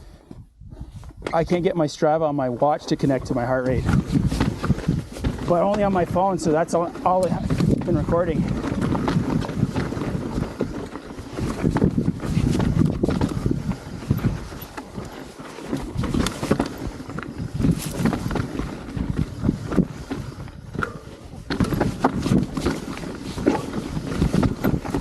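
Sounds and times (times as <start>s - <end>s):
wind buffeting microphone: 0.0s - 25.0s
bike rattling and knocking: 3.0s - 25.0s
tyres crunching on rocks: 3.7s - 25.0s.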